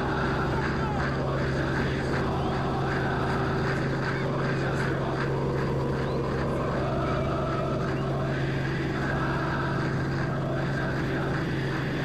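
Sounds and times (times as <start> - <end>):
aircraft engine drone in cabin: 0.0 - 12.0.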